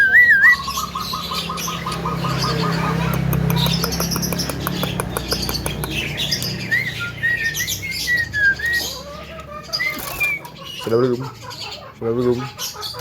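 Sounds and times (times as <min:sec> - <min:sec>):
myna bird singing: 0:00.0 - 0:13.0.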